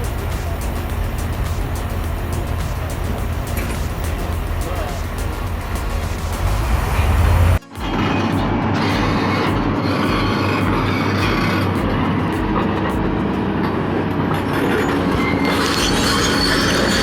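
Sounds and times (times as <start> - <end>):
heavy tracked machine running: 0.0 - 17.0
steel tracks squealing and clanking: 0.0 - 17.0.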